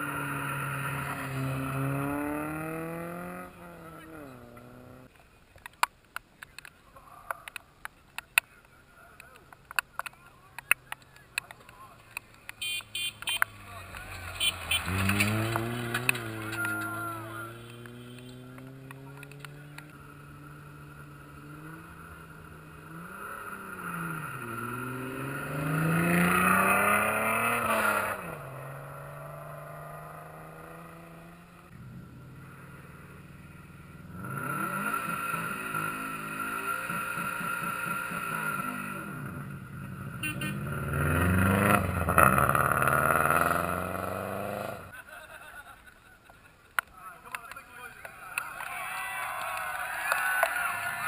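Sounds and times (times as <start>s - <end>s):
rally car engines revving: 0.0s - 5.1s, 8.6s - 45.7s.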